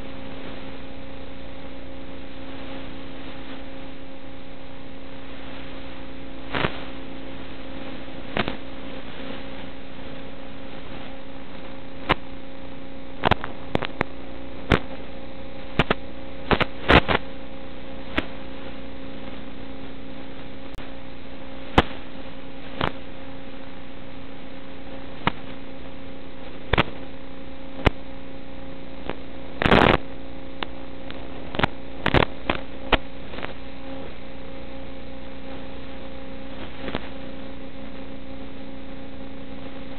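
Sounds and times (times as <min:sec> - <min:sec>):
crackling burst: 0:00.0 - 0:39.9
electrical hum and hiss: 0:00.0 - 0:39.9
sharp static clicks: 0:00.0 - 0:39.9.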